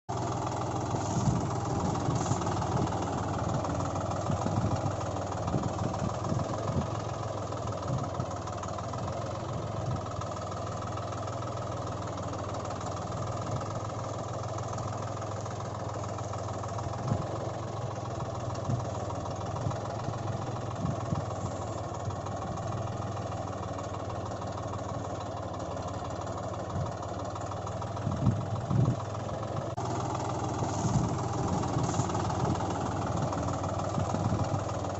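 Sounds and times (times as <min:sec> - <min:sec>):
heavy machinery engine idling: 0:00.1 - 0:34.9.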